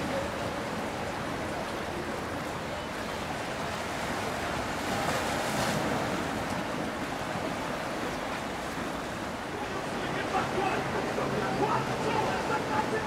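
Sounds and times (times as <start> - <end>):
water rushing past boat: 0.0 - 13.0.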